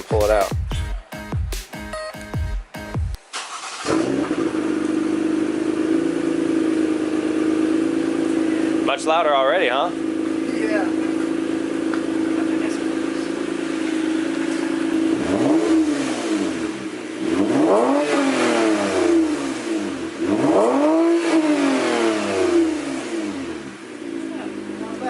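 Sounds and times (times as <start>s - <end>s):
loud car engine idling and revving: 3.1s - 25.0s.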